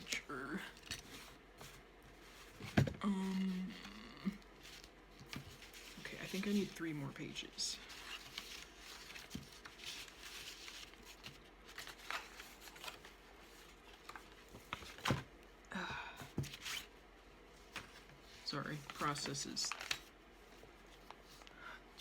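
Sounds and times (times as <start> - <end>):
paper rustling and shuffling: 0.0 - 15.3, 16.2 - 16.9, 17.5 - 22.0.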